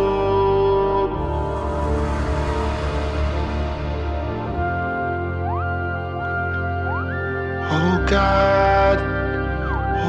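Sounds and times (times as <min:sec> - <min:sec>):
background music held notes: 0:00.0 - 0:10.0
steady low bass: 0:00.0 - 0:10.0.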